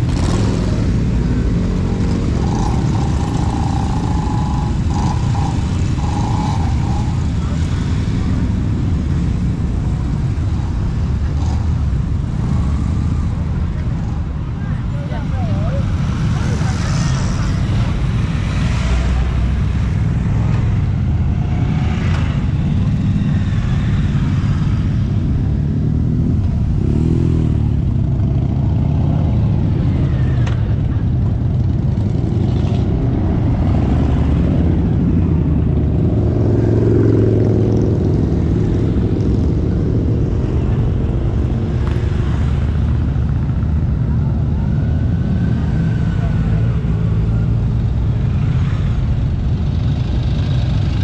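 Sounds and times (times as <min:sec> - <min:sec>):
motorcycles riding past: 0:00.0 - 0:51.0.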